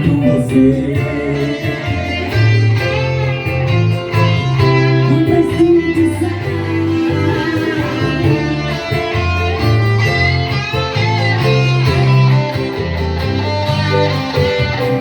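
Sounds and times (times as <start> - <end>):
bass and backing band: 0.0 - 15.0
lead guitar: 0.0 - 15.0.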